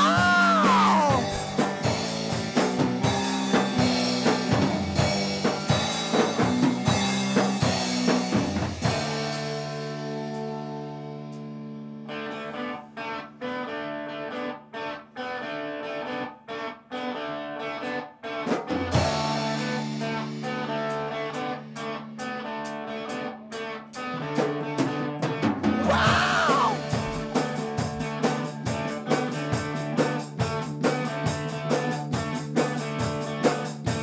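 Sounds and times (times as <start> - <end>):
electric guitar riff: 0.0 - 7.0, 8.8 - 30.8
rock band instrumental: 0.0 - 34.0.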